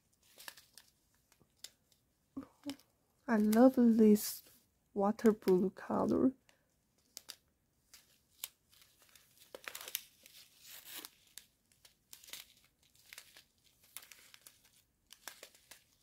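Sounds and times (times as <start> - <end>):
thin plastic crinkling: 0.0 - 4.6, 5.2 - 16.0.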